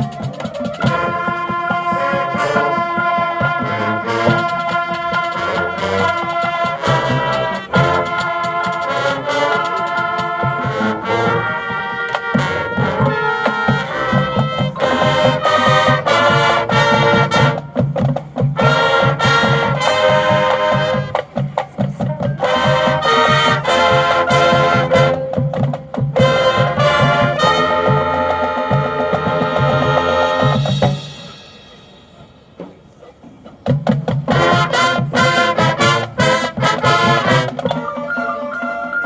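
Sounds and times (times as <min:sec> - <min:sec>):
brass chords: 0:00.0 - 0:32.5, 0:33.6 - 0:39.0
steady low drum beat: 0:00.0 - 0:32.6.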